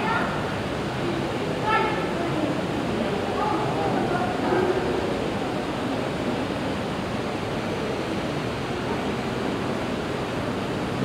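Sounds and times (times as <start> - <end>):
aquarium room rushing noise: 0.0 - 11.0.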